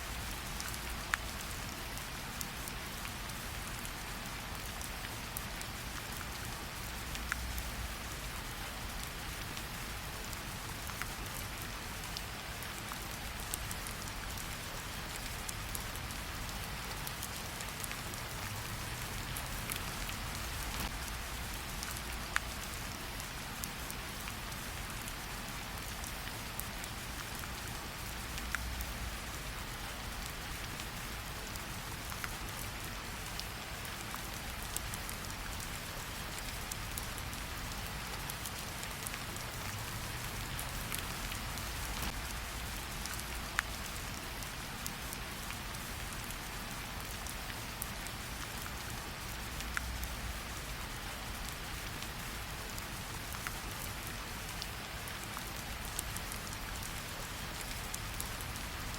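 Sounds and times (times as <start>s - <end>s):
steady rain: 0.0s - 58.9s
campfire crackles: 0.1s - 58.9s.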